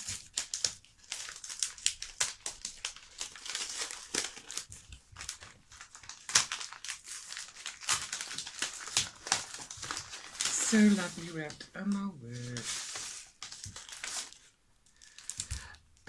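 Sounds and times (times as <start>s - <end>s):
paper ripping: 0.0s - 14.5s
wrapping paper crinkling: 0.0s - 16.0s.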